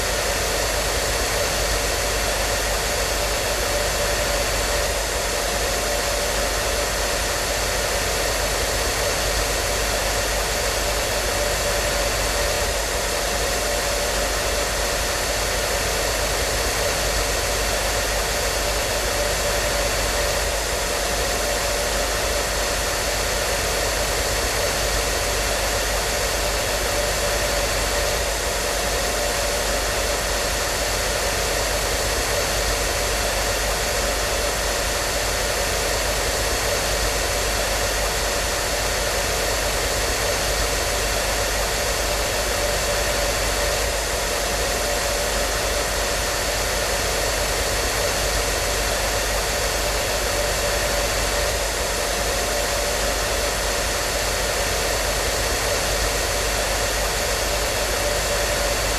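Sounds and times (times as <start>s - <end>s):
hair dryer running: 0.0s - 58.9s.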